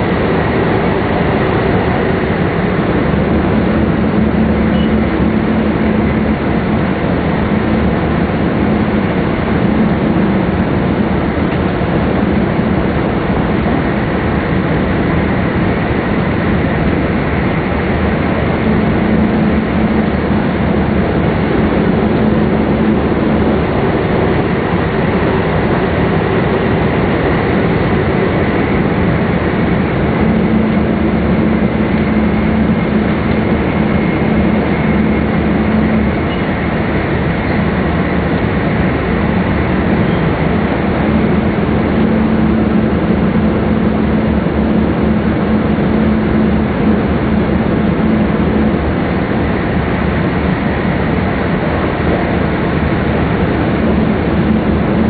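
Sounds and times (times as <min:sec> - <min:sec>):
low drone: 0:00.0 - 0:55.0
train cabin rumble and hiss: 0:00.0 - 0:55.0.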